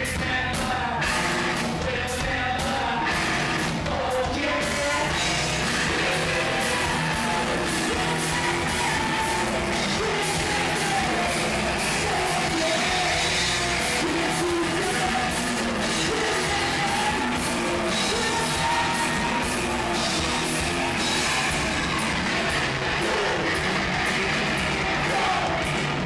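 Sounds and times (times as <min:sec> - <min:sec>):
bass guitar: 0:00.0 - 0:26.0
distorted guitar: 0:00.0 - 0:26.0
drums: 0:00.0 - 0:26.0
people singing and shouting: 0:00.0 - 0:26.0.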